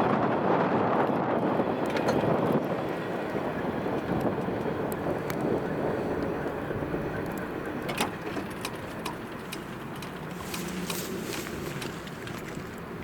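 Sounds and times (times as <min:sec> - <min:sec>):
freight train rumbling past: 0:01.4 - 0:12.2.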